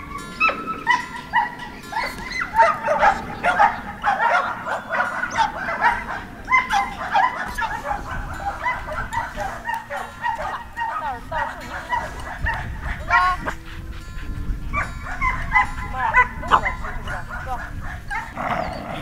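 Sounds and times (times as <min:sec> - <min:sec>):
dogs yipping and whining: 0:00.0 - 0:19.0.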